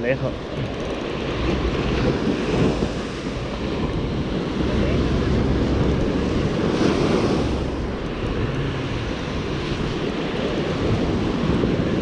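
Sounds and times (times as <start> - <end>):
surf washing on a beach: 0.0 - 12.0
wind buffeting microphone: 0.0 - 12.0.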